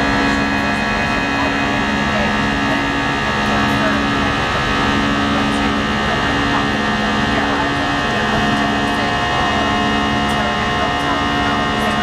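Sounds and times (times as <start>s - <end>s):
jet engines droning: 0.0s - 12.0s
steady humming tones: 0.0s - 12.0s.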